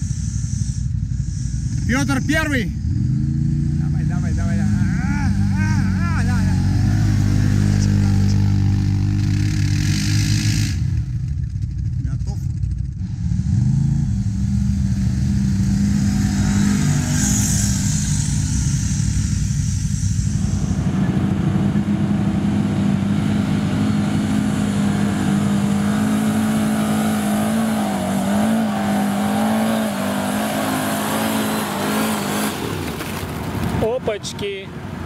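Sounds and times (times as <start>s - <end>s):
atv engine at high revs: 0.0s - 11.6s, 12.4s - 34.0s.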